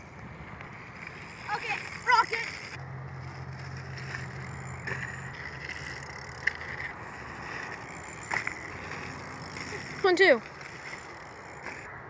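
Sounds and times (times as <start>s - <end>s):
bicycle tyres rolling on dirt: 0.0s - 11.9s.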